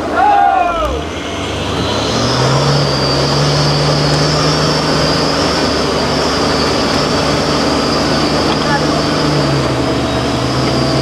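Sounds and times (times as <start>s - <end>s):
diesel engine running: 0.0s - 11.0s
high whine: 0.0s - 11.0s.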